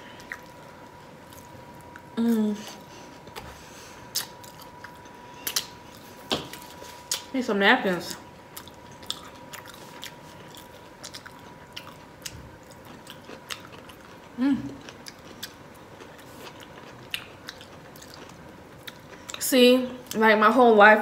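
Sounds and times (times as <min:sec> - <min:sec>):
chewing with crunches: 0:00.0 - 0:07.3, 0:08.0 - 0:20.2.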